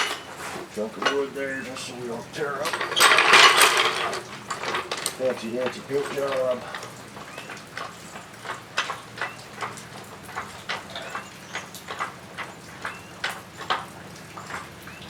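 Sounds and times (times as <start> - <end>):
raindrops on a metal roof: 0.0 - 15.0.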